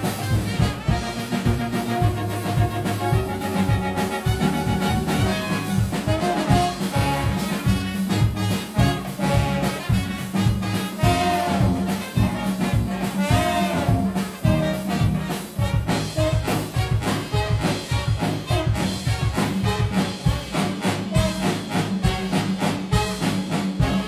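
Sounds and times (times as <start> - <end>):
swing music with brass: 0.0 - 24.0.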